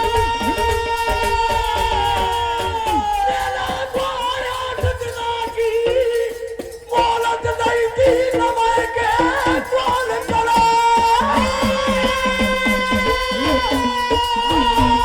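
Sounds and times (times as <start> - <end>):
hand-drum strokes: 0.0 - 15.0
person singing folk song: 0.0 - 15.0.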